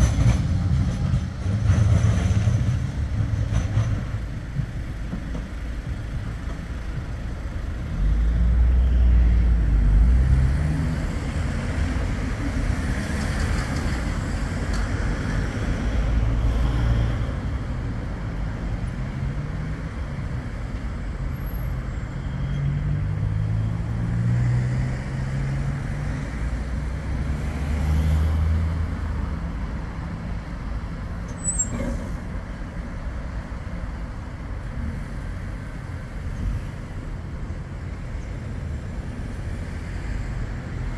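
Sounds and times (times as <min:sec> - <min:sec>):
road traffic: 0:00.0 - 0:40.9
tram running on track: 0:00.0 - 0:40.9.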